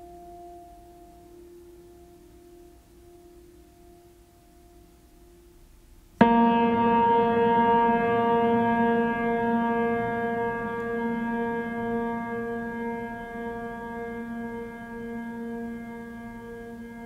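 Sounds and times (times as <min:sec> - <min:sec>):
ambient keyboard music: 0:00.0 - 0:17.0.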